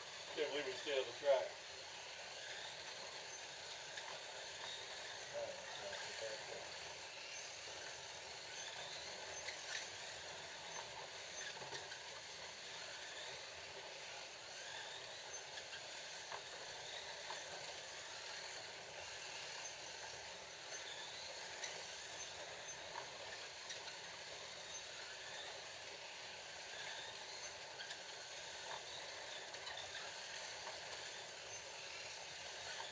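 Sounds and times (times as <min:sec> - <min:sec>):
slot car motor whine: 0:00.0 - 0:32.9
slot car motors whirring: 0:00.0 - 0:32.9.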